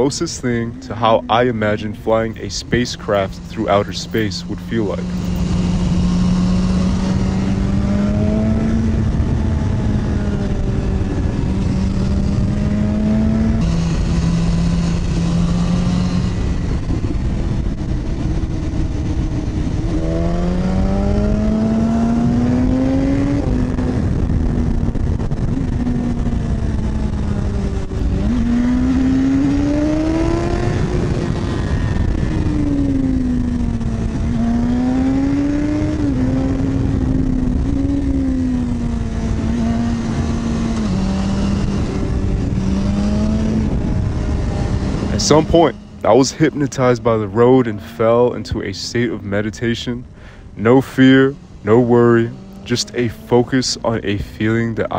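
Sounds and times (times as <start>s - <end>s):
motorcycle engine revving: 0.0s - 54.9s
rush of wind: 0.0s - 54.9s.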